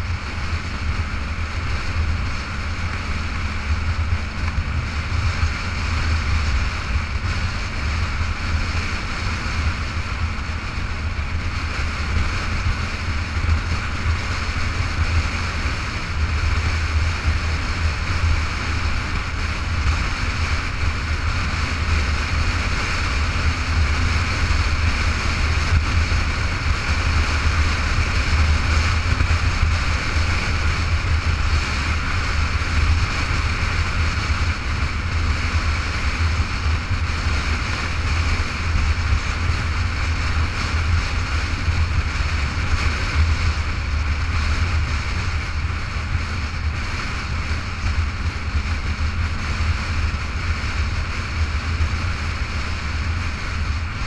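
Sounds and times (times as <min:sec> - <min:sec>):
motorcycle engine cruising: 0:00.0 - 0:54.0
road noise: 0:00.0 - 0:54.0
wind rumble on microphone: 0:00.0 - 0:54.0.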